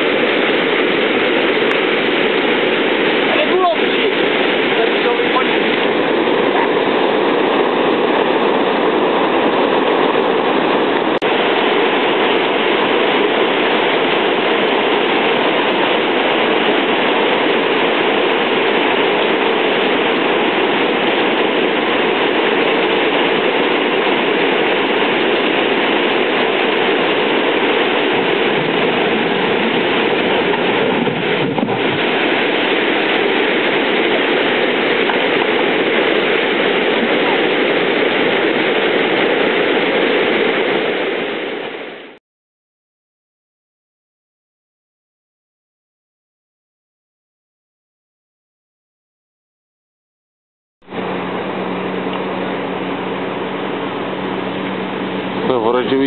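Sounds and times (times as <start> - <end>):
water rushing over weir: 0.0 - 42.2, 50.8 - 56.0.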